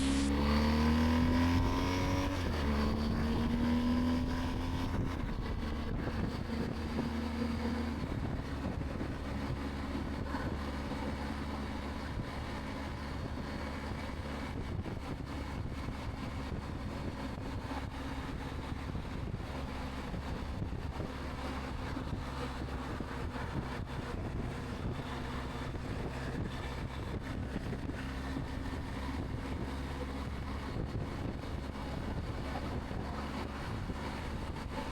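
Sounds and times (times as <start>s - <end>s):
motorcycle engine: 0.0s - 16.7s, 20.8s - 34.9s.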